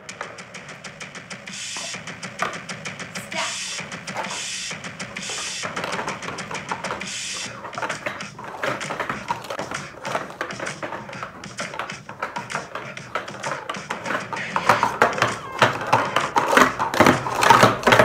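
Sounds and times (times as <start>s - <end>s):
plastic cups clacking on table: 0.0s - 18.0s.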